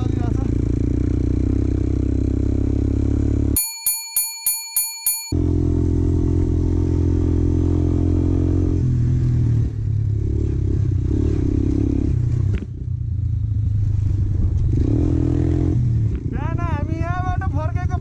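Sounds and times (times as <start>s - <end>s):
motorcycle engine running: 0.0s - 3.7s, 5.3s - 18.0s.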